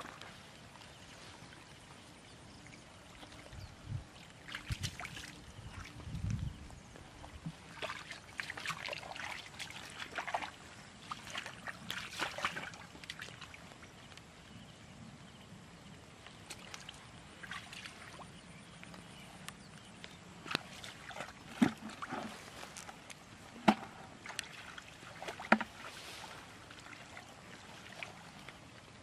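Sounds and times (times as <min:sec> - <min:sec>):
splashing through shallow water: 0:00.0 - 0:14.4, 0:16.1 - 0:29.0.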